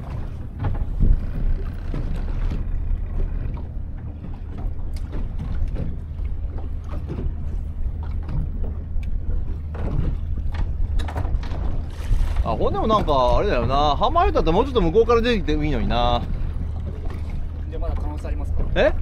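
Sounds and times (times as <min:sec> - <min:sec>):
low rumble of wind: 0:00.0 - 0:19.0
water around boat: 0:00.0 - 0:19.0.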